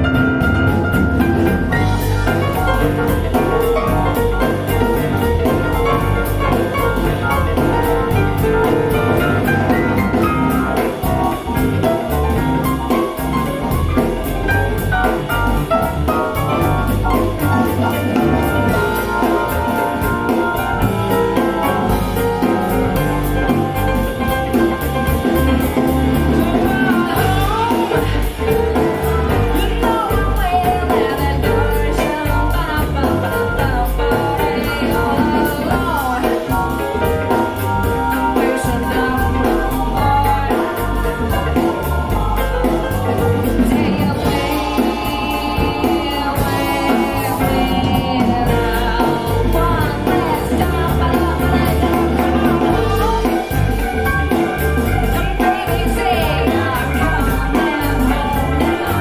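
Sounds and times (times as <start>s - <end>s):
music from speakers: 0.0s - 59.0s.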